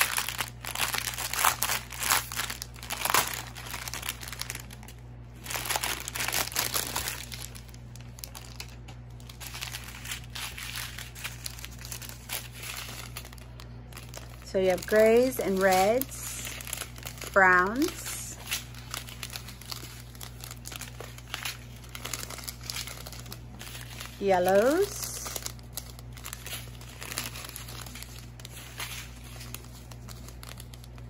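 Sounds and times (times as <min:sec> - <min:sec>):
plastic bags crinkling: 0:00.0 - 0:31.0.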